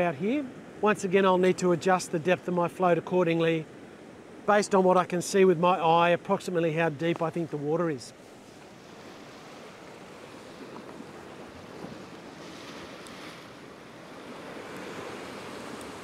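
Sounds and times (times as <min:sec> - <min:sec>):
surf washing against rocks: 0:00.0 - 0:16.0.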